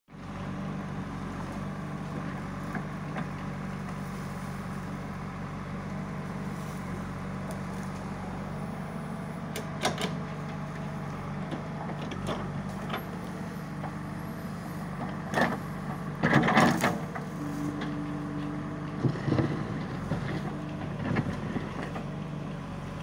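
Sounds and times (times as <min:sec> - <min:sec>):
backhoe digging and dumping soil: 0:00.1 - 0:23.0
diesel engine running: 0:00.1 - 0:23.0.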